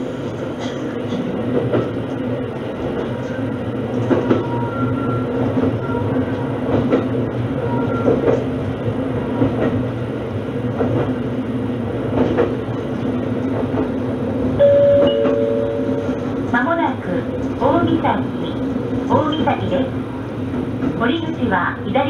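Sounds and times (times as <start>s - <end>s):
railcar engine drone: 0.0s - 22.0s.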